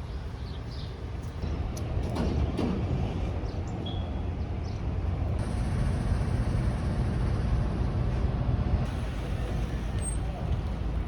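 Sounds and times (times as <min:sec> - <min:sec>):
vehicle rumble in motion: 0:00.0 - 0:11.0.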